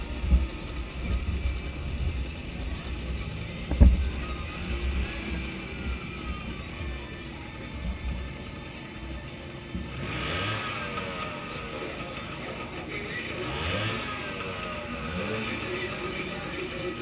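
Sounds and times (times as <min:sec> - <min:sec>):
scooter engines revving: 0:00.0 - 0:17.0.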